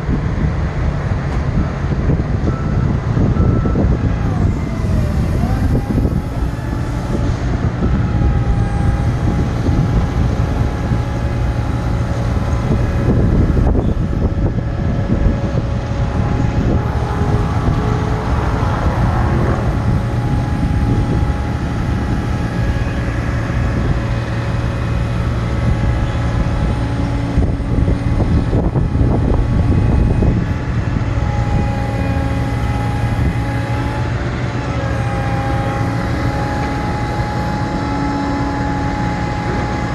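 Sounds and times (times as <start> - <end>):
truck engine hum: 0.0 - 39.9
hydraulic whine: 1.2 - 39.9.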